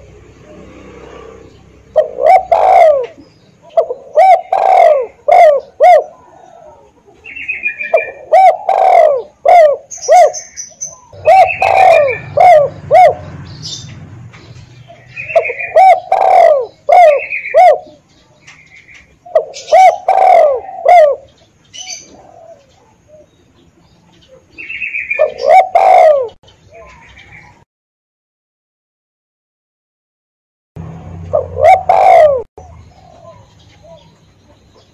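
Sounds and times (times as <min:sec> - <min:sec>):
dove cooing: 0:00.0 - 0:13.9, 0:14.8 - 0:23.4, 0:24.2 - 0:27.6, 0:31.2 - 0:34.9.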